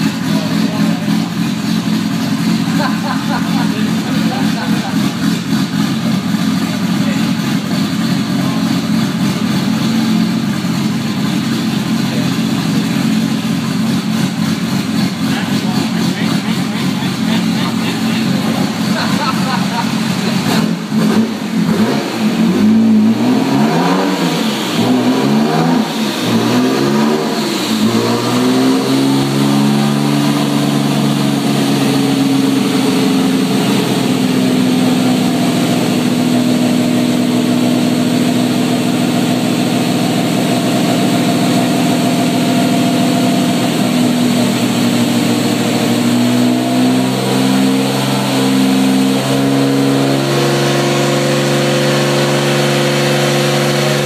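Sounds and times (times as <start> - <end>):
car engine revving on a dyno: 0.0 - 54.0.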